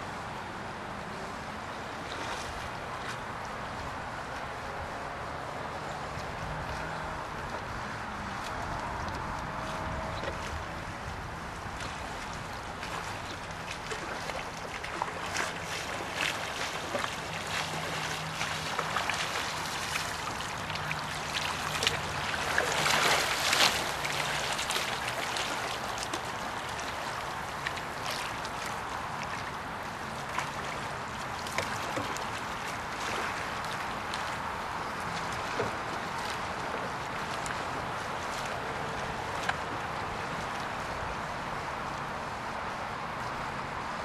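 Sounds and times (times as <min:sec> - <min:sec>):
river water rushing: 0:00.0 - 0:44.0
paddle strokes splashing: 0:00.1 - 0:44.0.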